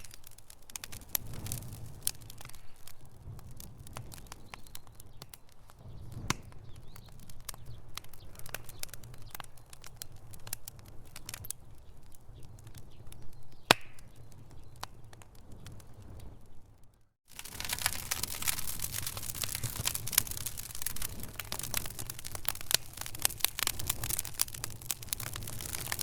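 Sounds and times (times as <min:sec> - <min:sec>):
low rumble of flames: 0:00.0 - 0:26.0
sharp pops of fire: 0:00.0 - 0:26.0
wood fire crackling: 0:00.0 - 0:26.0.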